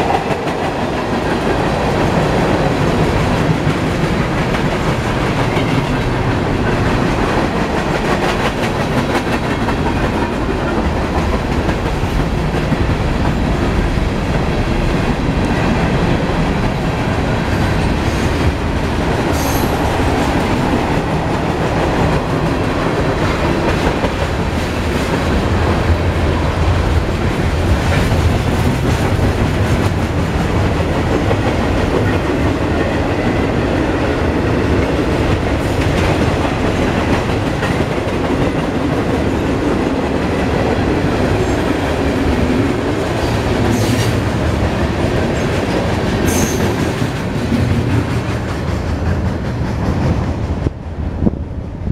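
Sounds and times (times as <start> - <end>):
freight train rumbling past: 0.0 - 51.9.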